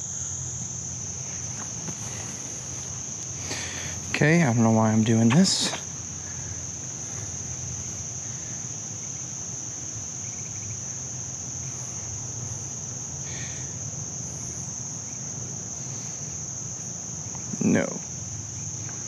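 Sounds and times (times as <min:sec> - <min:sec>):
insect chorus trilling: 0:00.0 - 0:19.0
low steady rumble: 0:00.0 - 0:19.0.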